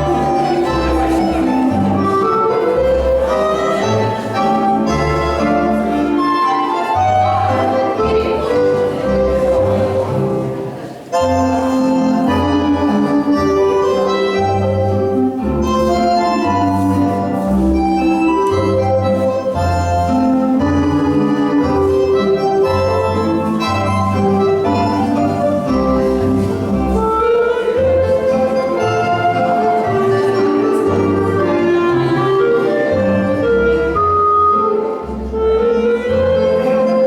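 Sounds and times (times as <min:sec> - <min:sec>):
ballroom dance music: 0:00.0 - 0:37.0.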